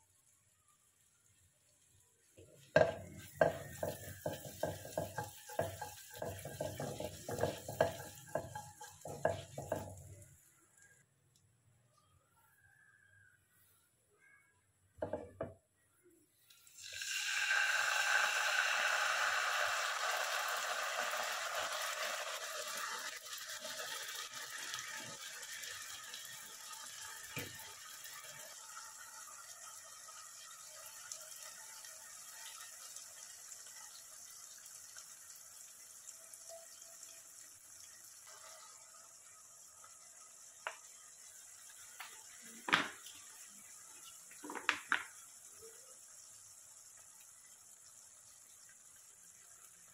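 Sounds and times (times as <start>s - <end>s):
sauce sizzling in wok: 0.0s - 11.0s, 16.5s - 49.9s.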